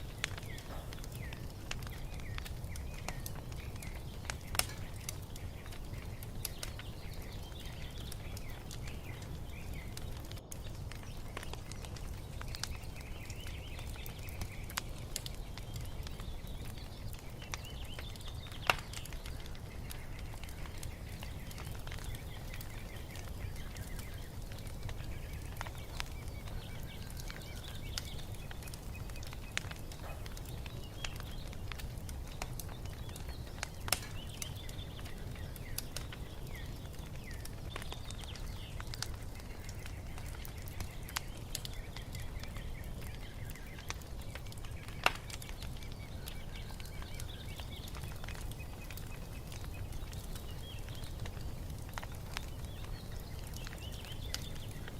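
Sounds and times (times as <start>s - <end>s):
small birds chirping: 0.0s - 54.9s
wood fire crackling: 0.0s - 54.9s.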